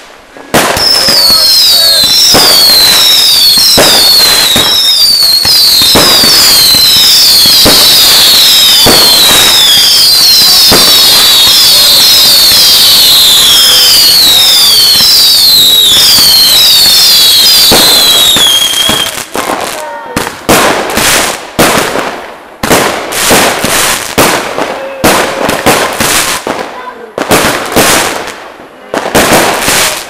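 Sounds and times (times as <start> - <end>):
fireworks banging: 0.0 - 30.0
fireworks whistling: 0.0 - 30.0.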